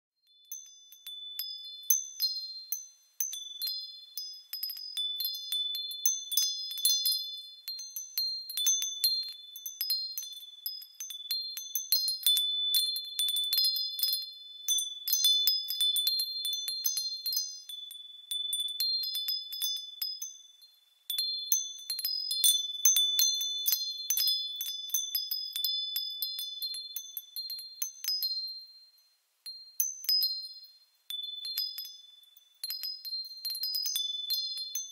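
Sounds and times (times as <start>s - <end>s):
wind chimes tinkling: 0.2s - 34.9s.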